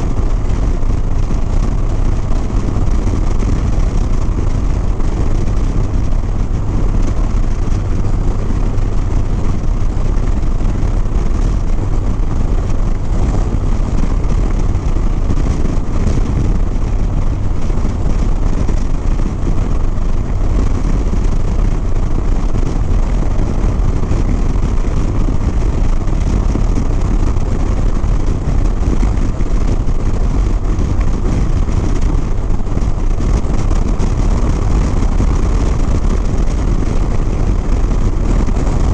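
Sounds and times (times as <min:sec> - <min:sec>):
motorcycle engine cruising: 0:00.0 - 0:38.9
wind rush on microphone: 0:00.0 - 0:38.9.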